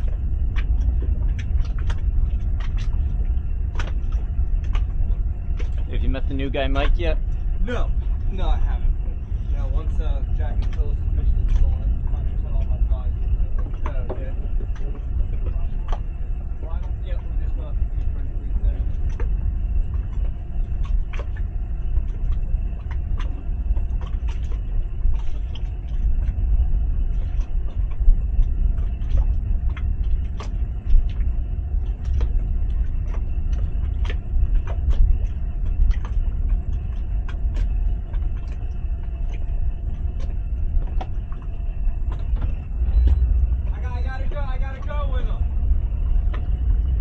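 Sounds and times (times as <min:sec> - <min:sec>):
faint steady hum: 0:00.0 - 0:47.0
outboard motor idling: 0:00.0 - 0:47.0.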